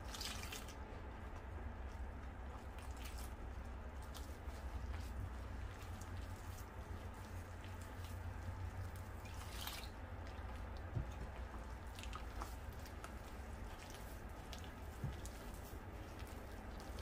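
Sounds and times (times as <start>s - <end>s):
hand squishing wet dough: 0.0s - 17.0s.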